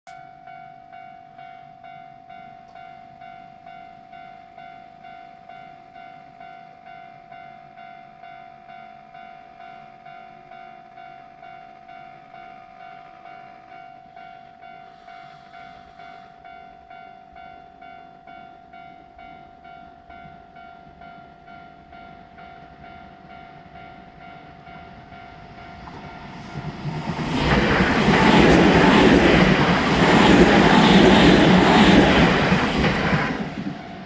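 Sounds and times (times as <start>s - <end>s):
express train passing: 0.5s - 34.0s.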